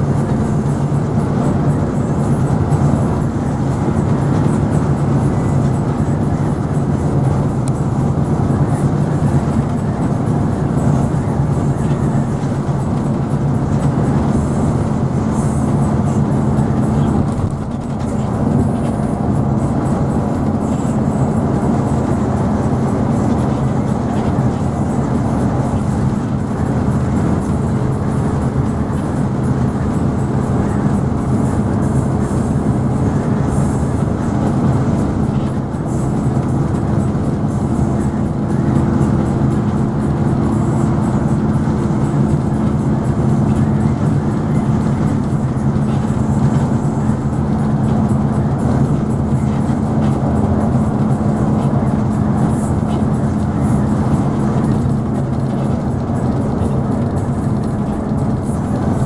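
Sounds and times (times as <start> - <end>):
vehicle road and engine noise: 0.0 - 59.0.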